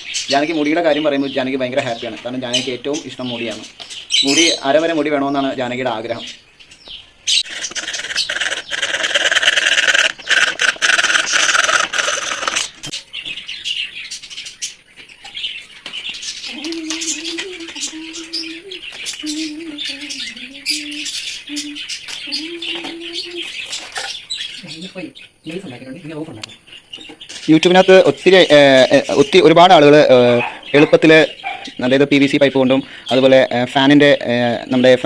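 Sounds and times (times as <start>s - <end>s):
birds chirping and chattering: 0.0s - 35.0s.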